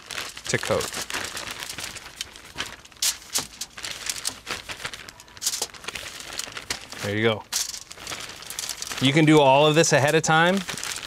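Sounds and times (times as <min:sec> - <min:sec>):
plastic bag crinkling and rustling: 0:00.0 - 0:11.0.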